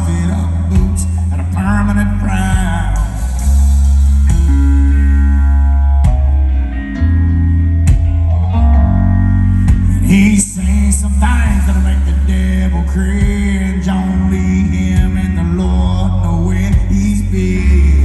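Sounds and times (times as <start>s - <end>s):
country band playing: 0.0s - 18.0s.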